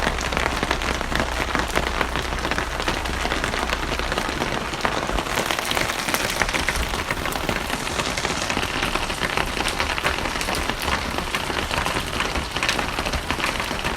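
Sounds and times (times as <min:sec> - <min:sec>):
rain falling on a surface: 0:00.0 - 0:13.9.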